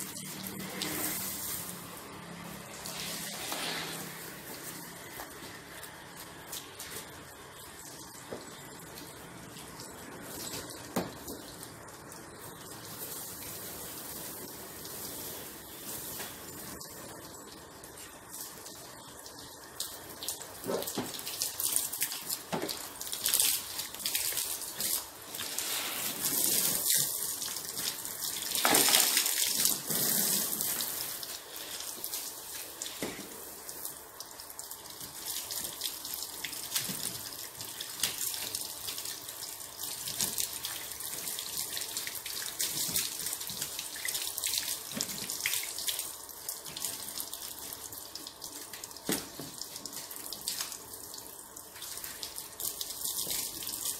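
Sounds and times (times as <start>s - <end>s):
hose water spraying on car: 0.0s - 53.9s.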